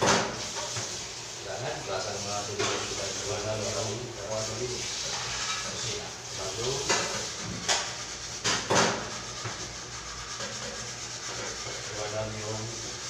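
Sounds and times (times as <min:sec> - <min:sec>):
hands scraping metal sink: 0:02.0 - 0:13.0.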